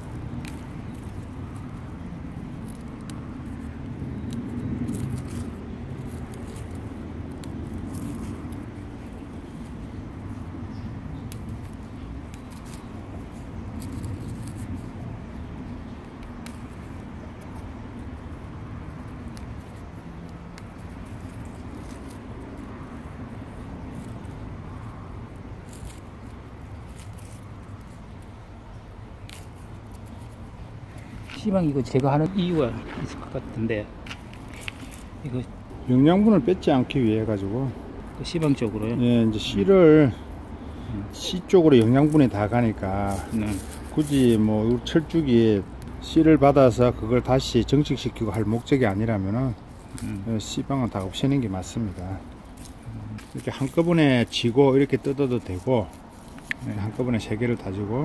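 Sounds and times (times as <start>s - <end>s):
small snaps and leaf rustles: 0.0s - 58.0s.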